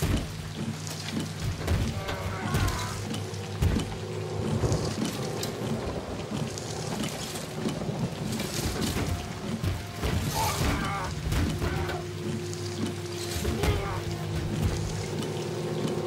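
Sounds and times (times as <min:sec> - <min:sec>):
film score low sustained notes: 0:00.0 - 0:16.0
heavy rain falling: 0:00.0 - 0:16.0.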